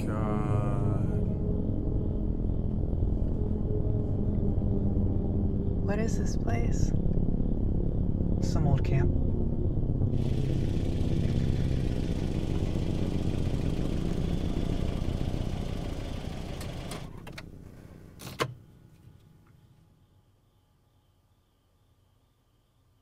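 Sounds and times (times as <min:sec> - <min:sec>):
car engine rumbling: 0:00.0 - 0:18.8.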